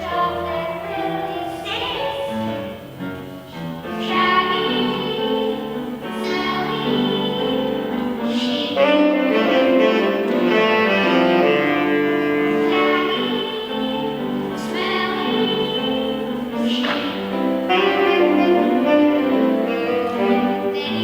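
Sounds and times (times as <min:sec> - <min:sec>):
choir singing: 0:00.0 - 0:03.1, 0:03.8 - 0:21.0
instrumental accompaniment: 0:00.0 - 0:21.0.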